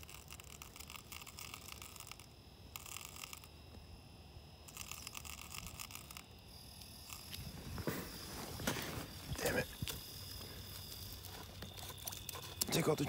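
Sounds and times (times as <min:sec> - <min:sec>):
fishing reel ticking whirr: 0:00.0 - 0:03.6, 0:04.6 - 0:13.0.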